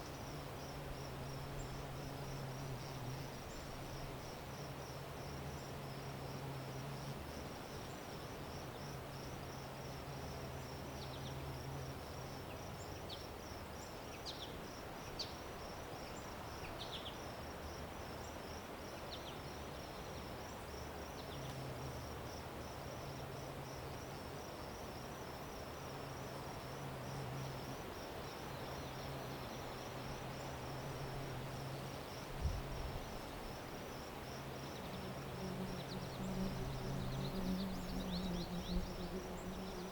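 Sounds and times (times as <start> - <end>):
crickets trilling: 0.0 - 39.9
outdoor background hiss: 0.0 - 39.9.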